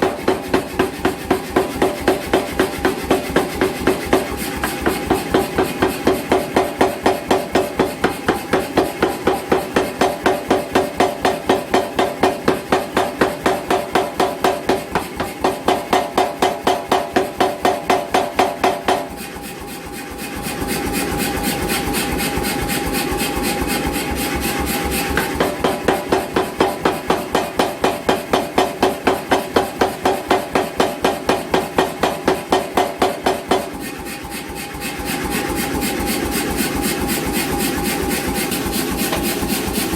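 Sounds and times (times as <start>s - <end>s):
power hammer striking hot steel: 0.0s - 39.9s
steady mechanical hum: 0.0s - 39.9s.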